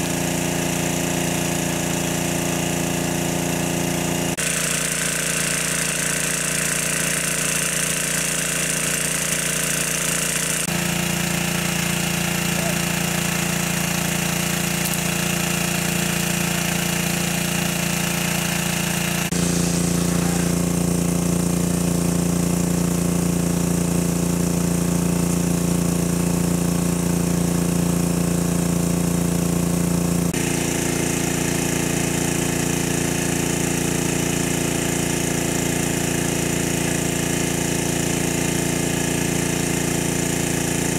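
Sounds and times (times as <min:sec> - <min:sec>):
water pump engine running: 0:00.0 - 0:40.9.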